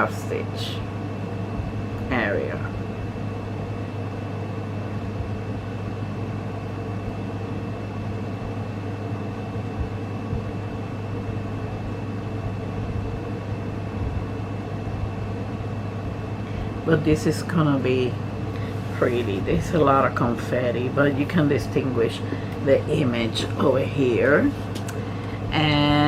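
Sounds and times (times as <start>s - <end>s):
high whine: 0.0s - 26.0s
low machine hum: 0.0s - 26.0s.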